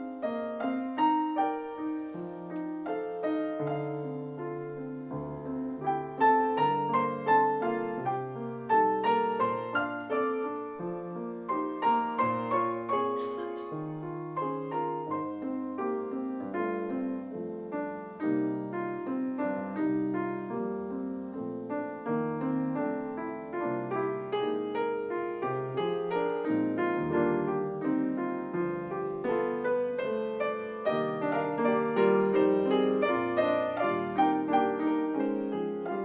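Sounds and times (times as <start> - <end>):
grand piano duet: 0.0 - 36.0.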